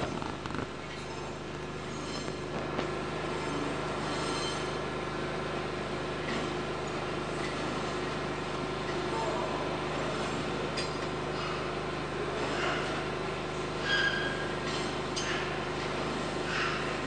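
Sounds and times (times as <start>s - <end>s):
low mechanical hum of trains: 0.0s - 17.0s.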